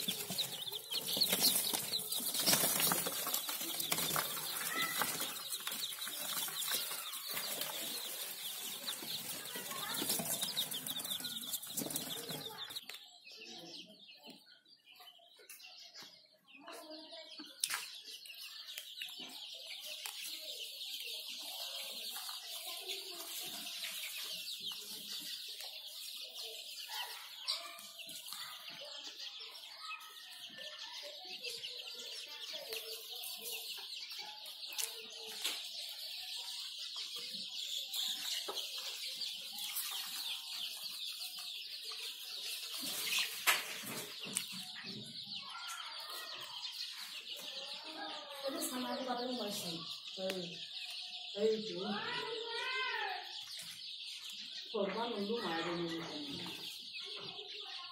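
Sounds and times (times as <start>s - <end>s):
chickens clucking: 0.0s - 57.9s.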